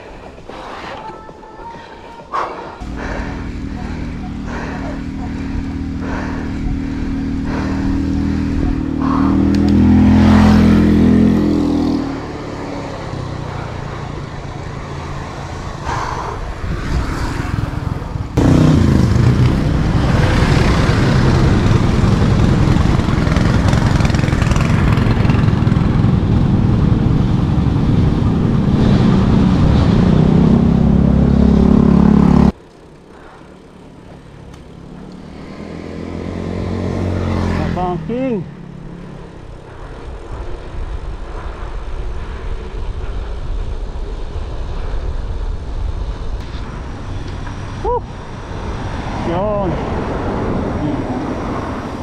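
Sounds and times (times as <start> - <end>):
rushing noise: 0.0 - 32.6, 35.4 - 52.0
vehicle engine rumble: 0.0 - 52.0.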